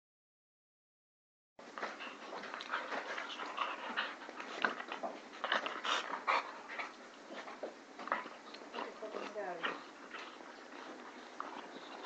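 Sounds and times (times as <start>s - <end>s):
puppies scuffling: 1.6s - 12.0s
puppies panting: 1.7s - 12.0s.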